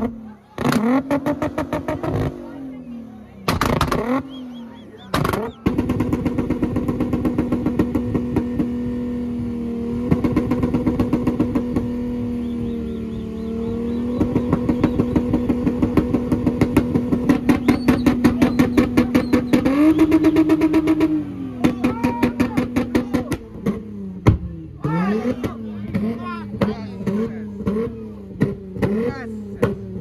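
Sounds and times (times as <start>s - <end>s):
car engine at high revs: 0.0s - 30.0s.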